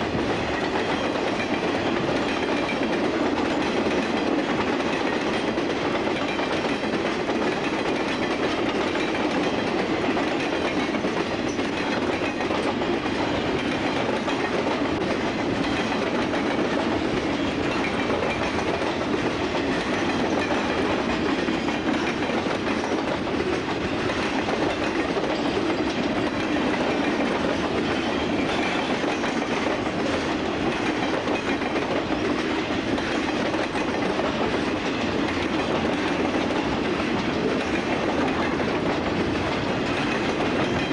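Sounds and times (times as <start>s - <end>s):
freight train rumbling: 0.0s - 40.9s
wheels clickety-clack on rail joints: 0.0s - 40.9s.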